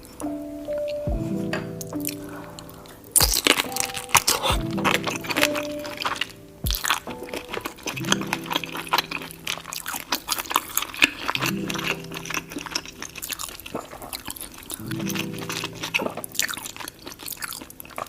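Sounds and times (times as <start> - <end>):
soft background music: 0.0 - 18.0
wet eating sounds: 1.9 - 18.0.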